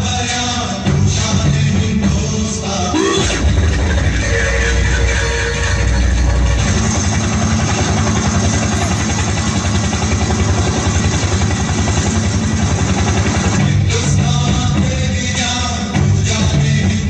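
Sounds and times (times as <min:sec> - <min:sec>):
engine-like rumble over loudspeakers: 0:00.0 - 0:17.0.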